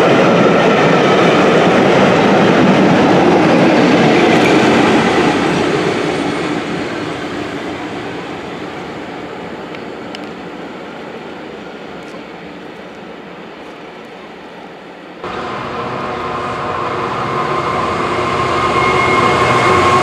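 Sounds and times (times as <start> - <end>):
train passing on rails: 0.0 - 20.0.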